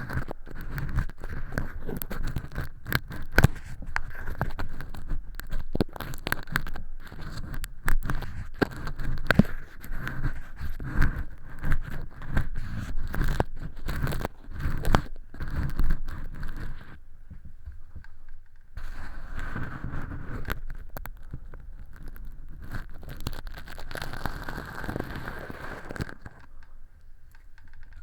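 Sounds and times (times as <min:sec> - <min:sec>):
earpick scraping and crackling: 0:00.0 - 0:28.0.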